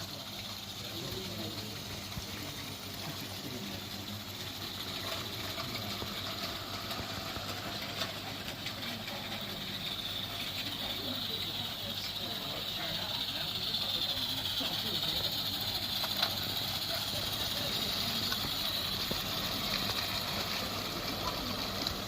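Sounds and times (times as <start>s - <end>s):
rapid clicking: 0.0s - 22.0s
steam hissing: 0.0s - 22.0s.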